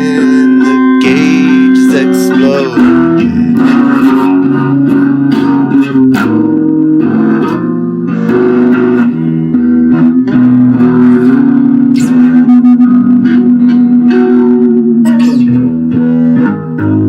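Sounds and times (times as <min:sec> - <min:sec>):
guitar and bass guitar: 0:00.0 - 0:17.0.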